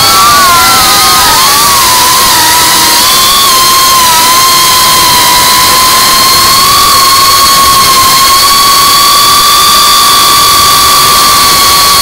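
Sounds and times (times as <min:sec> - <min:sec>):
drone propellers whining: 0:00.0 - 0:12.0
wind noise: 0:00.0 - 0:12.0.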